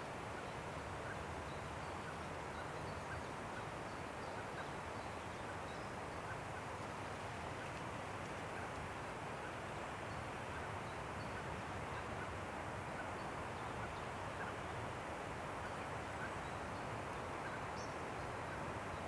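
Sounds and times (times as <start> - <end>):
wind rushing through trees: 0.0 - 19.0.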